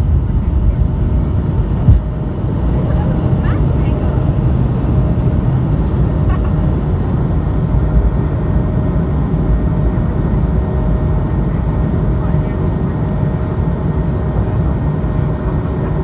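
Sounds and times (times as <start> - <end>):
faint steady engine tones: 0.0 - 16.0
jet engines deep rumble: 0.0 - 16.0.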